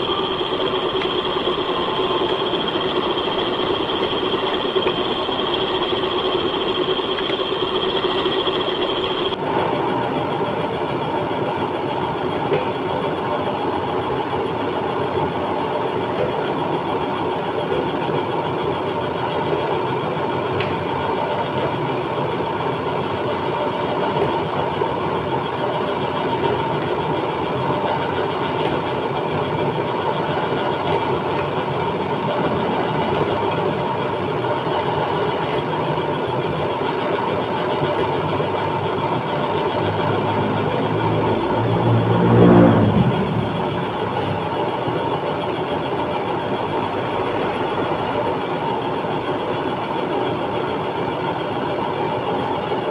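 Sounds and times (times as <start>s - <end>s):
high machine whine: 0.0s - 52.9s
milling machine humming: 0.0s - 52.9s.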